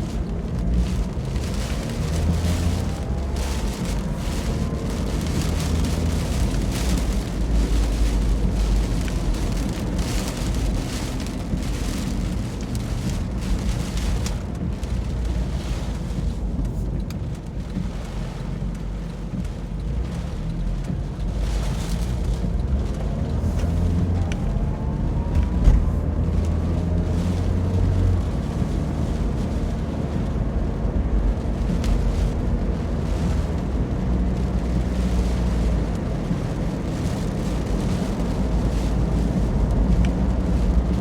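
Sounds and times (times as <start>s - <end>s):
rain hiss: 0.0s - 41.0s.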